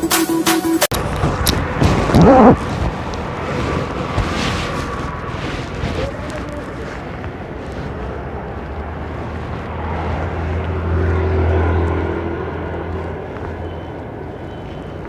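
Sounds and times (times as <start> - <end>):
motorcycle engine drone: 0.9 - 15.0
wind and road noise: 0.9 - 15.0.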